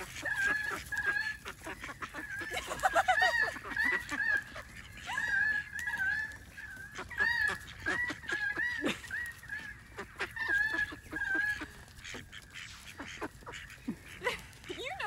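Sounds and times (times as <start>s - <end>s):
bills pecking at food: 0.0s - 15.0s
ducks calling: 0.0s - 15.0s.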